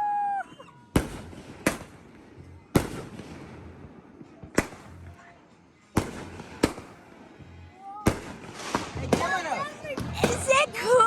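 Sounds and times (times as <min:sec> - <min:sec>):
fireworks bangs: 0:00.9 - 0:05.4, 0:06.0 - 0:11.0.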